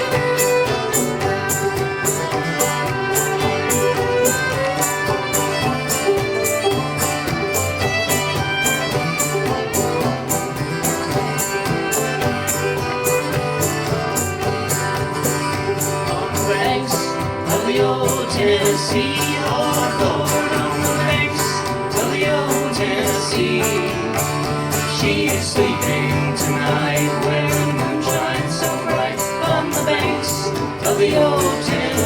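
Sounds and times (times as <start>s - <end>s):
fiddle melody: 0.0s - 32.0s
high-pitched percussion beat: 0.0s - 32.0s.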